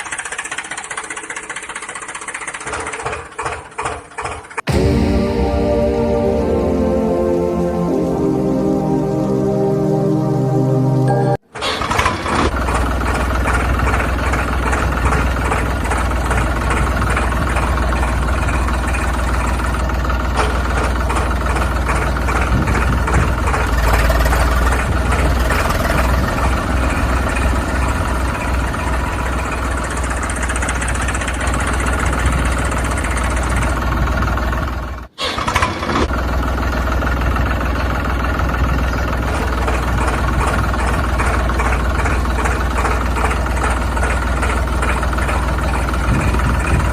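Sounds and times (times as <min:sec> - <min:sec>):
small tractor engine running: 0:00.0 - 0:05.0, 0:11.1 - 0:46.9.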